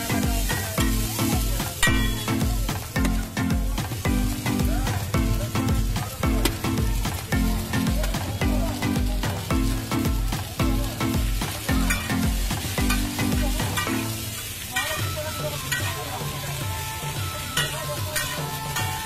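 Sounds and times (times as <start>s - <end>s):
background music with bass beat: 0.0s - 19.0s
food frying in a pan: 0.0s - 19.0s.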